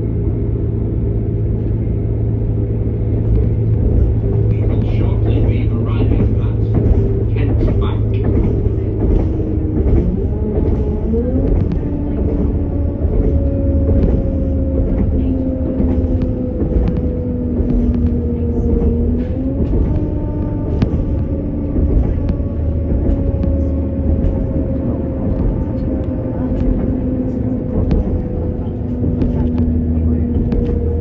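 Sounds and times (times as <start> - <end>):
train rumble from inside: 0.0 - 31.0.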